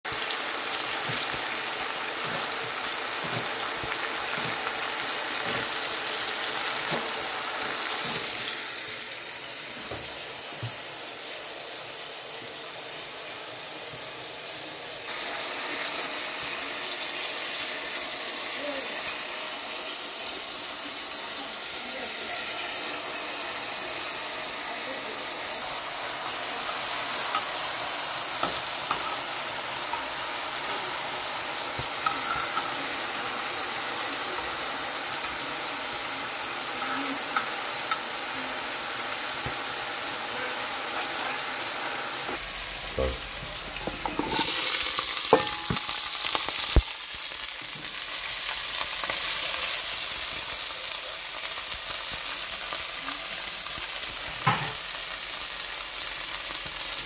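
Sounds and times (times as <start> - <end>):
meat sizzling in oil: 0.1 - 57.0.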